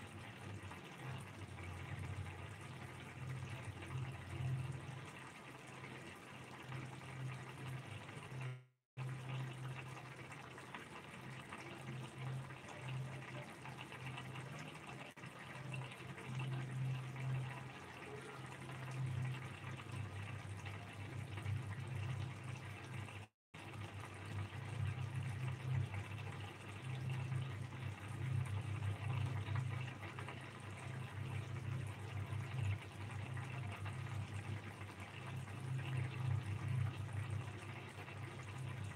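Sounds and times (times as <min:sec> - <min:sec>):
gravy bubbling in a pan: 0:00.0 - 0:38.9
low steady hum: 0:00.0 - 0:38.9.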